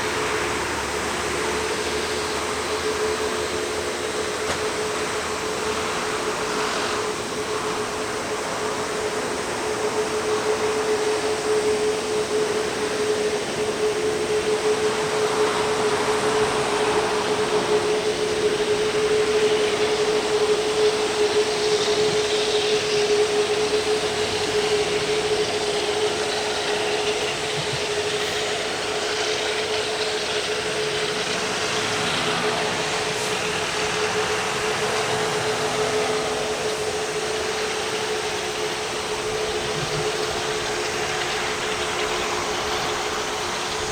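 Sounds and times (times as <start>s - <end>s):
jet engines running: 0.0s - 43.9s.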